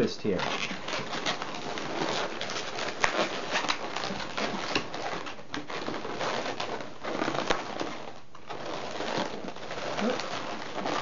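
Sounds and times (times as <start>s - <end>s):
balloons squeaking and rubbing: 0.0s - 11.0s.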